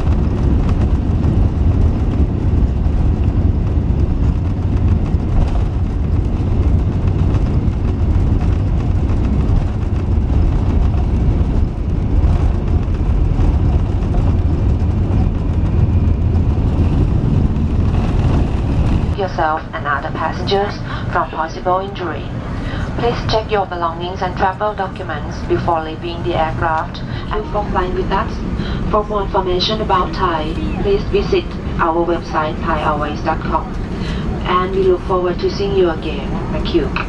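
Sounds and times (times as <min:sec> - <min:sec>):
airplane cabin engine rumble: 0:00.0 - 0:37.0.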